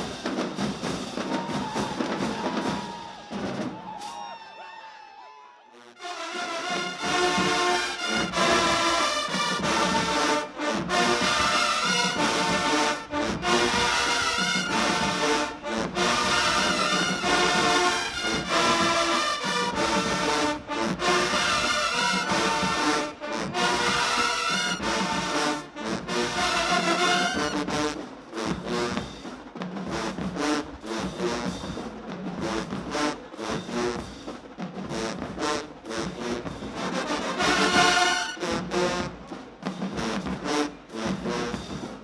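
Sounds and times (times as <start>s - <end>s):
brass section playing: 5.7s - 42.0s.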